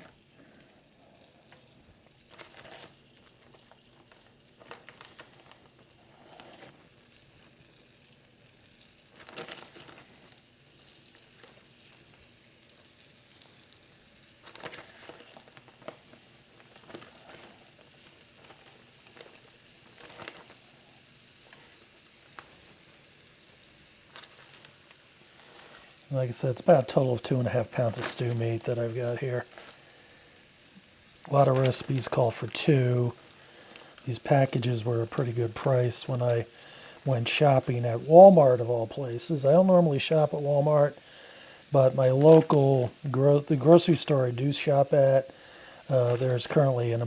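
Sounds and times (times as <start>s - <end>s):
meat sizzling in hot oil: 0.0s - 47.0s.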